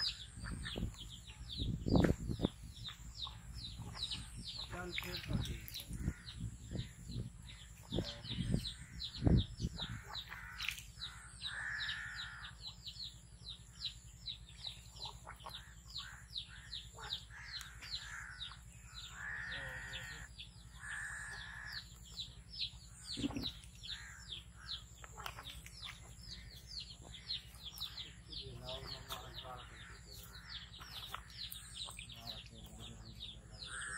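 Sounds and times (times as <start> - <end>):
harsh bird calls: 0.0 - 33.9
small birds chirping: 0.0 - 33.9.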